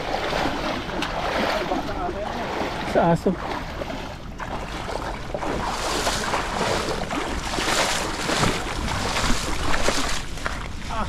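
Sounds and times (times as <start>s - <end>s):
river water sloshing and splashing: 0.0s - 11.0s.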